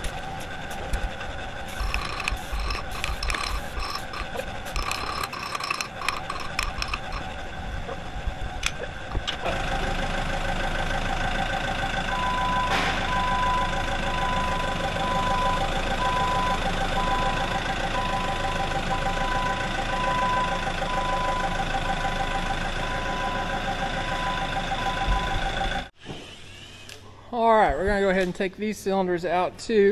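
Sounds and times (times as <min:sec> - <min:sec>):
forklift engine running: 0:00.0 - 0:26.9.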